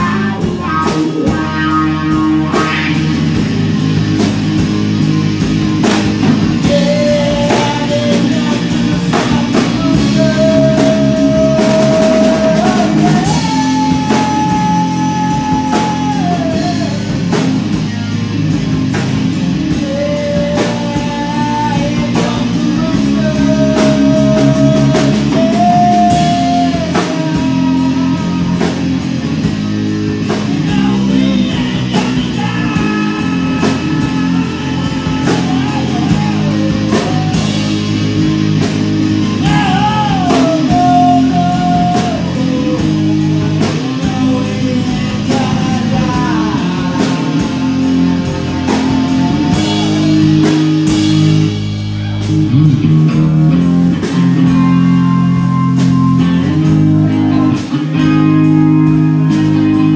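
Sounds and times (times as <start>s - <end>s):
person singing: 0.0s - 4.7s, 5.7s - 59.9s
bass guitar: 0.0s - 59.9s
distorted electric guitar: 0.0s - 59.9s
drum kit: 0.0s - 59.9s.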